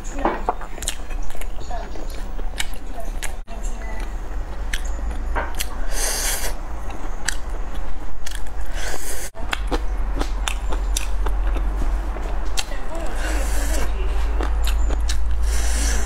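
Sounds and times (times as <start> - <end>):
steady low hum: 0.0 - 16.0
chewing with wet mouth clicks: 0.4 - 5.8, 6.4 - 16.0.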